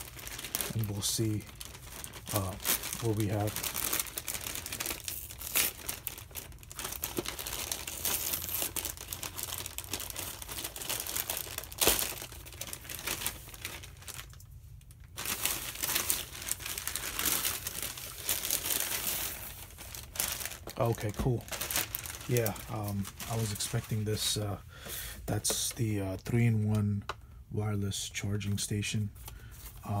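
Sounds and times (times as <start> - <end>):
plastic bag crinkling and tearing: 0.0 - 24.4.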